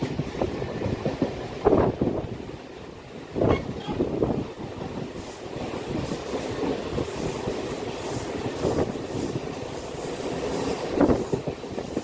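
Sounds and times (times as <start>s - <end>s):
train wheel-on-rail noise: 0.0s - 12.0s.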